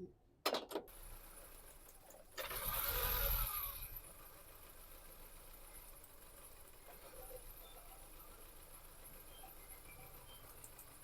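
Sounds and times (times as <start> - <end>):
car engine running: 0.9 - 11.0
starter motor cranking: 1.0 - 11.0.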